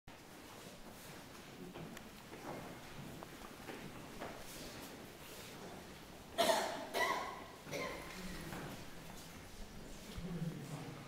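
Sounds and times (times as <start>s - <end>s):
steady low hiss: 0.1s - 11.0s.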